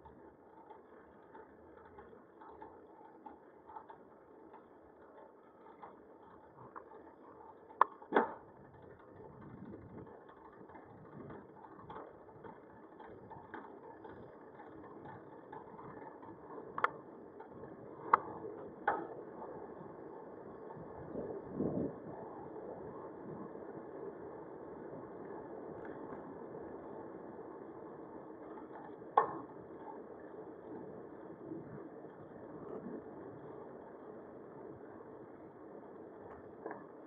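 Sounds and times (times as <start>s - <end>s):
bicycle riding noise: 0.0s - 37.0s.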